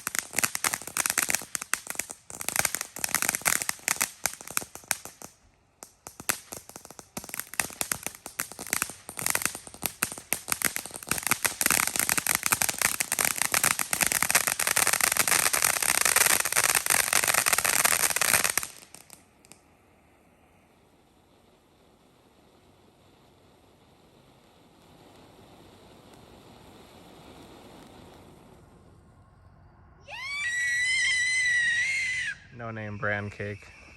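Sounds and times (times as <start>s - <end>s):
fireworks crackling: 0.0s - 29.4s, 30.1s - 33.9s.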